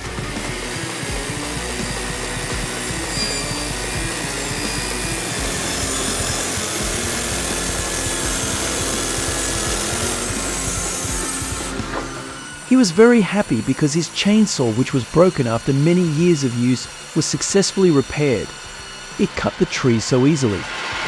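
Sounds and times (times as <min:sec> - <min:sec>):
power saw cutting wood: 0:00.0 - 0:21.0.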